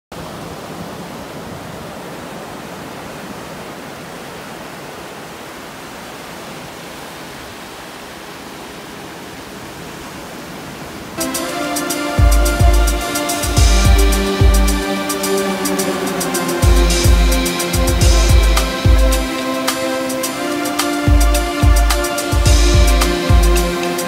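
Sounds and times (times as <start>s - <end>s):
ocean surf breaking on beach: 0.2s - 24.0s.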